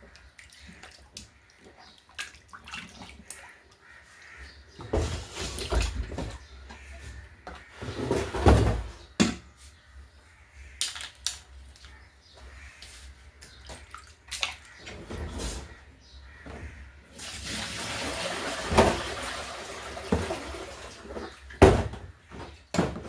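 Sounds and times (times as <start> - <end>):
water sloshing in a basin: 0.0 - 8.3, 10.4 - 21.6.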